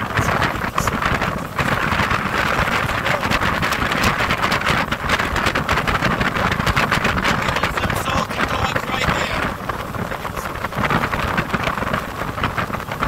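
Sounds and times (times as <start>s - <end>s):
boat engine: 0.0s - 13.0s
hull running through water: 0.0s - 13.0s
wind buffeting microphone: 0.0s - 13.0s.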